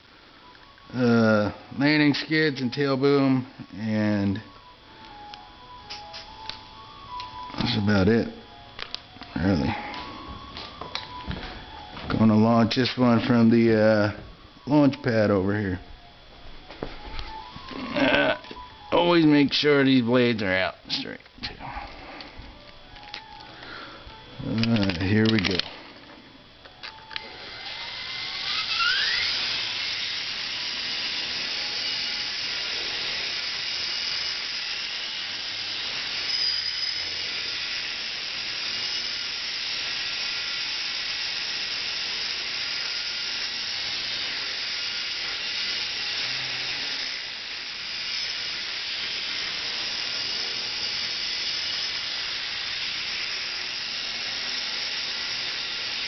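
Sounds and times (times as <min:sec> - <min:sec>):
rc helicopter whine: 0:00.0 - 0:56.0.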